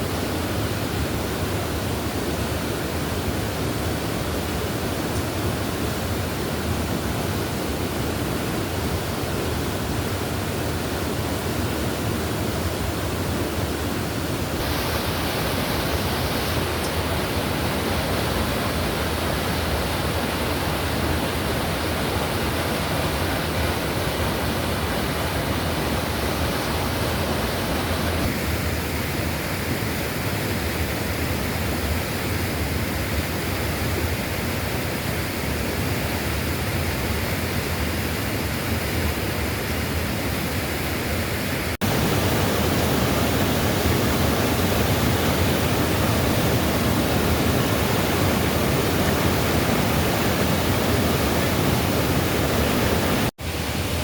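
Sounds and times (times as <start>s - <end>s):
forest stream rushing: 0.0s - 54.0s.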